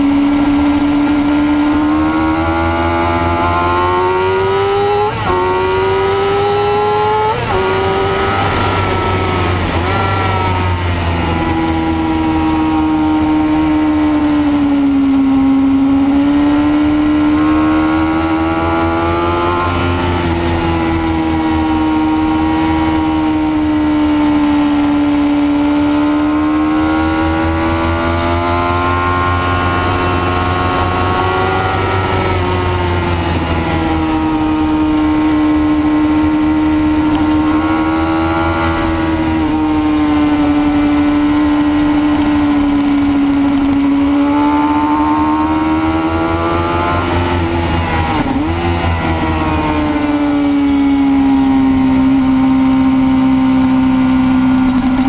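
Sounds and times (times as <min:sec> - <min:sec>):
racing motorcycle engine: 0:00.0 - 0:55.0
wind noise: 0:00.0 - 0:55.0.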